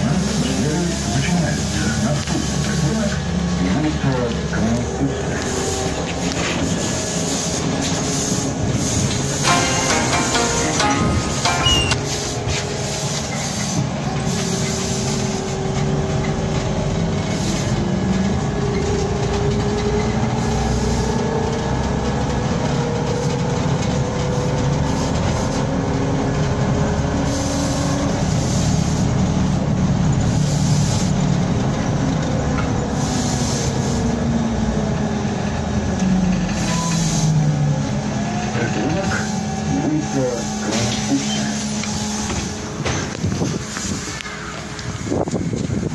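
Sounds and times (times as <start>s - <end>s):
bus wheels and body rumbling: 0.0s - 45.9s.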